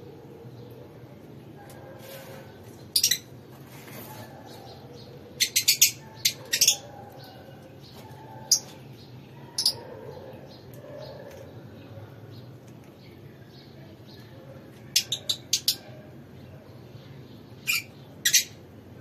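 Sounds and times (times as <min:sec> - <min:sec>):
birds chirping high-pitched: 0:02.3 - 0:18.8.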